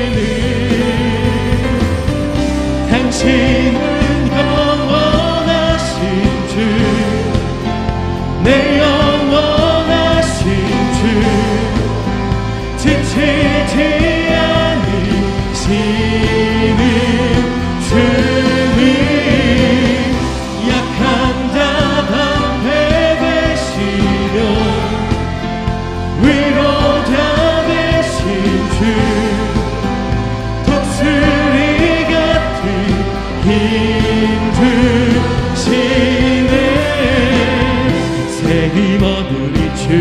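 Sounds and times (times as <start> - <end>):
congregation singing praise song: 0.0 - 40.0
keyboard accompaniment: 0.0 - 40.0.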